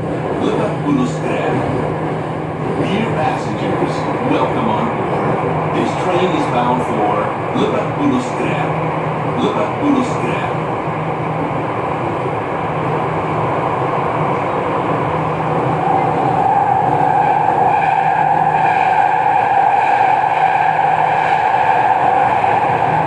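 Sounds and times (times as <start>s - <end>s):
metro train rumble: 0.0s - 23.0s.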